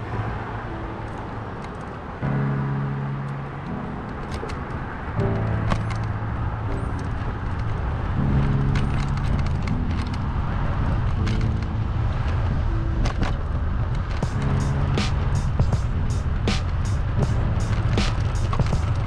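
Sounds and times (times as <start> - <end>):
bicycle road rumble: 0.0 - 19.0
music with low held notes: 0.0 - 19.0
wind noise: 0.0 - 19.0.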